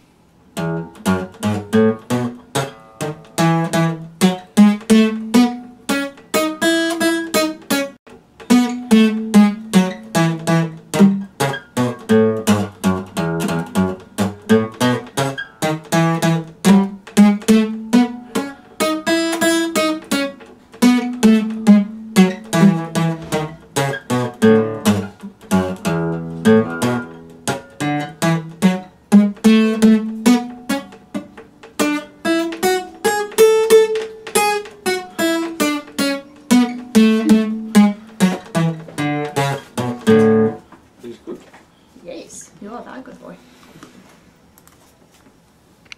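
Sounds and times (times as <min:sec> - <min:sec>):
acoustic guitar strumming: 0:00.5 - 0:40.8.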